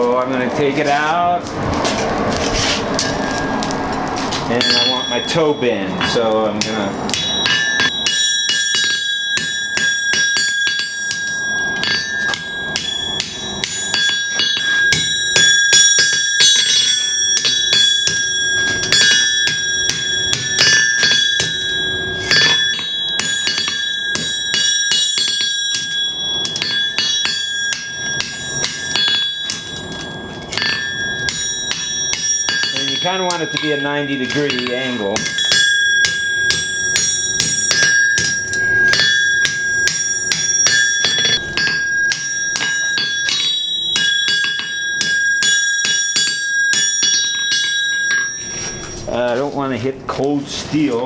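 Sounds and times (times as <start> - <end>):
hammer striking steel on anvil: 2.4 - 49.5
anvil ringing: 2.9 - 49.8.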